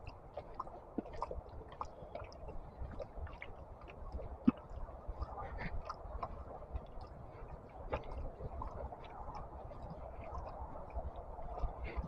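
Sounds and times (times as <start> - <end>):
faint irregular crackles and taps: 0.0 - 12.0.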